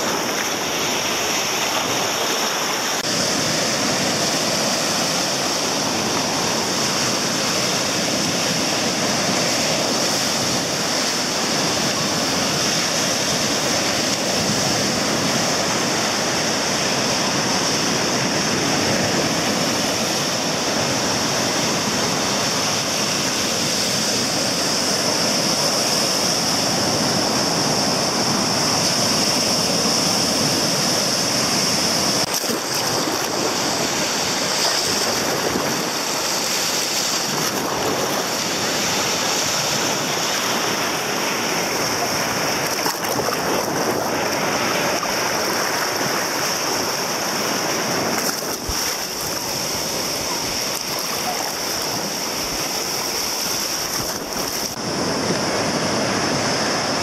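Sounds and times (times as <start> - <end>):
surf washing up a sandy beach: 0.0 - 57.0.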